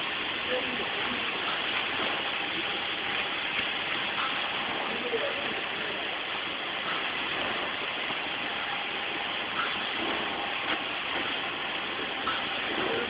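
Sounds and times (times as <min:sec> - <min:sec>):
packing machinery running: 0:00.0 - 0:13.0.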